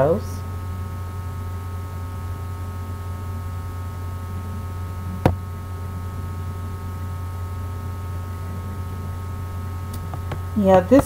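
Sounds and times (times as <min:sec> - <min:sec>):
faint whine tones: 0:00.0 - 0:11.0
low electrical hum: 0:00.0 - 0:11.0.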